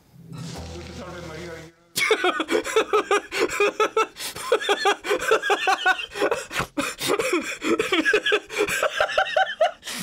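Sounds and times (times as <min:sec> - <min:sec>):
man laughing hard: 0:02.0 - 0:10.0.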